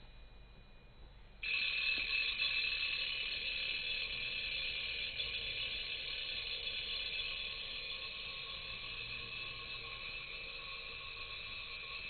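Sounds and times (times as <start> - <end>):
vibration motor buzzing on metal tines: 1.4 - 12.0.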